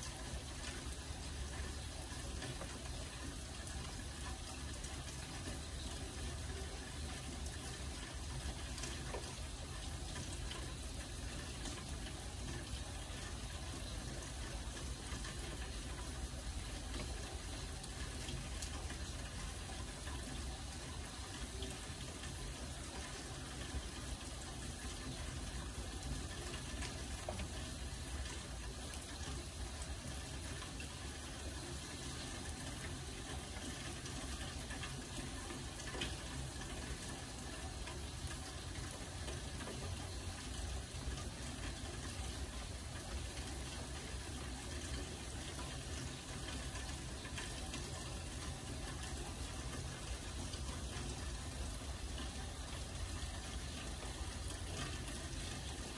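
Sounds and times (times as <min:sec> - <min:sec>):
single raindrops ticking: 0:00.0 - 0:55.9
steady rain falling: 0:00.0 - 0:55.9.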